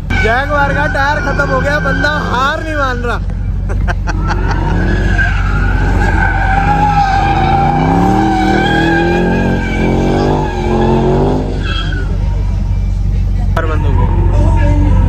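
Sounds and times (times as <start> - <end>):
car engine revving: 0.0 - 15.0
car tyres squealing: 0.0 - 15.0.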